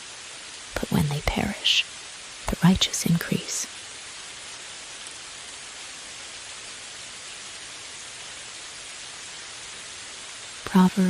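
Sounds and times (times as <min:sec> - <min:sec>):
light rain hissing: 0:00.0 - 0:11.0.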